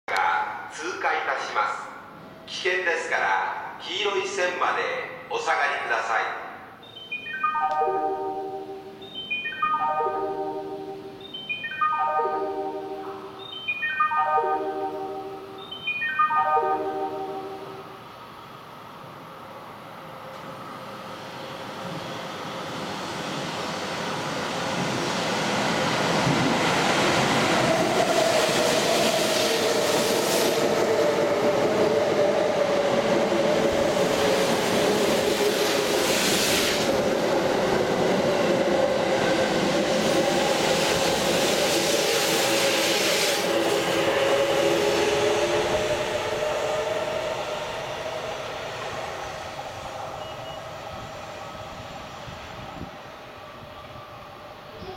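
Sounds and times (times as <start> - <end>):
train passing at speed: 0.1 - 54.9
train whine: 6.9 - 54.9.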